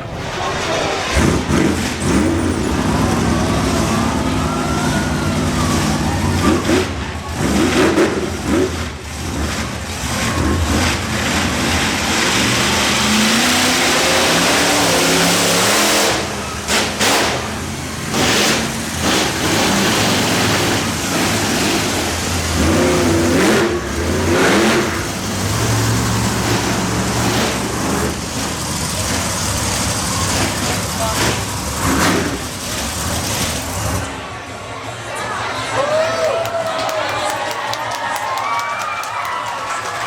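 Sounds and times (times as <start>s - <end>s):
steady rushing roar: 0.0s - 35.2s
monster truck engine revving: 0.0s - 35.8s.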